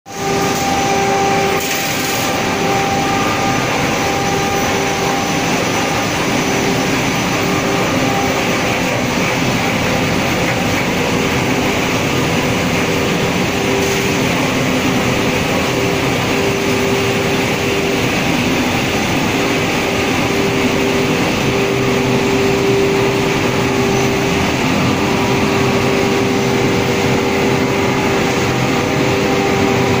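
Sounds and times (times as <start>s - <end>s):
machinery noise with hum: 0.1s - 30.0s.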